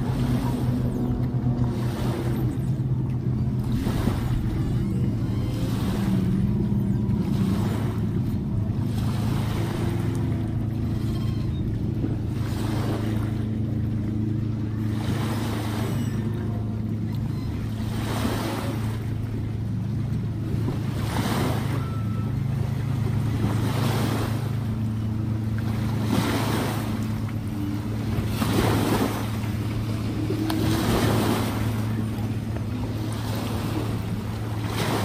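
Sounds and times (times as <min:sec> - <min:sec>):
small waves breaking on shore: 0:00.0 - 0:35.0
steady low hum: 0:00.0 - 0:35.0.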